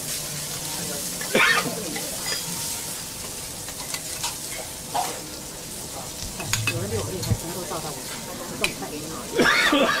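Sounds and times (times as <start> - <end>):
meat sizzling on griddle: 0.0 - 10.0.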